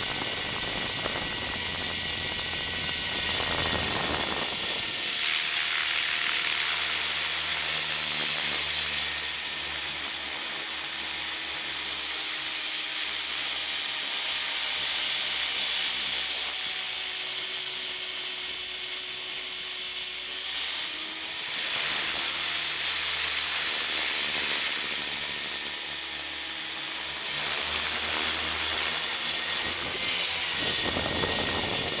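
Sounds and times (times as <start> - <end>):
rc helicopter motor whine: 0.0 - 32.0.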